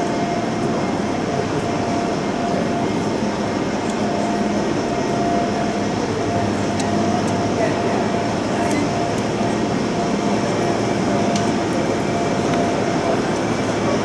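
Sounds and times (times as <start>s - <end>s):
standing train hum: 0.0s - 14.0s.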